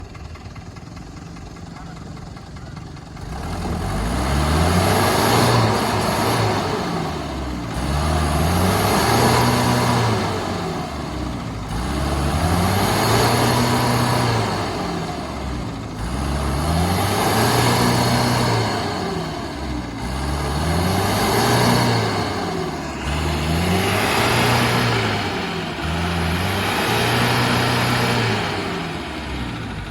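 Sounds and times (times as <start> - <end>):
truck engine revving: 0.0 - 29.9.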